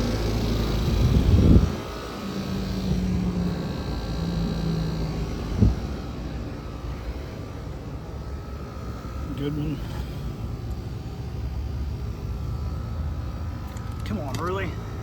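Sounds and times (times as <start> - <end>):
air conditioning units humming: 0.0 - 15.0
faint steady tones: 1.7 - 15.0.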